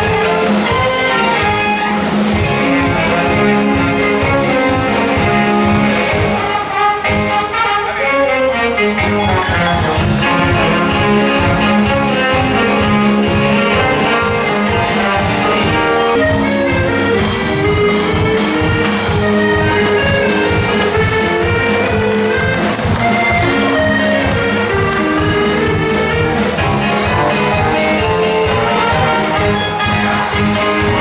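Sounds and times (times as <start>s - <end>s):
brass band music with steady beat: 0.0s - 31.0s.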